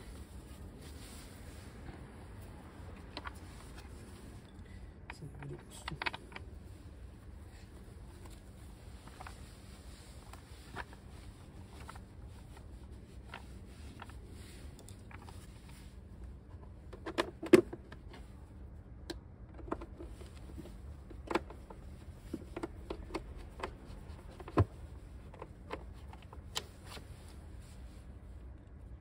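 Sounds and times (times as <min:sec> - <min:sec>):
light clicks and knocks of parts: 0:01.8 - 0:27.5.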